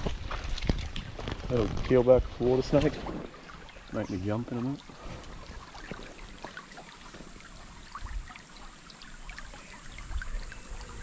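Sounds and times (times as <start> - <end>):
creek water trickling over pebbles: 0.0 - 11.0
small clicks and splashes: 0.0 - 11.0.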